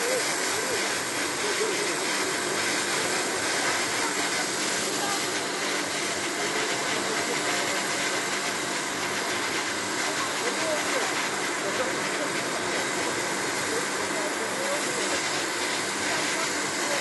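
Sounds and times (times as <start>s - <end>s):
snow cannon spray hissing: 0.0s - 17.0s.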